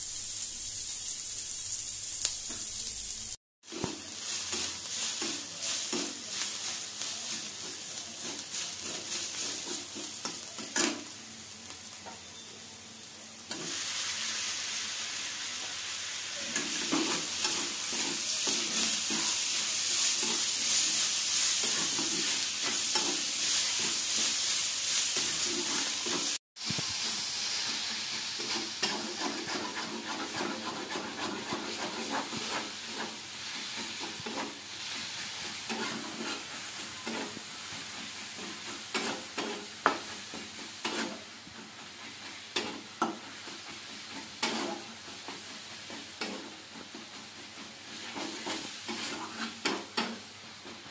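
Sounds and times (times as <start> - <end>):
vegetables sizzling in oil: 0.0 - 50.9
spatula scraping wok: 0.2 - 11.2, 15.8 - 50.9.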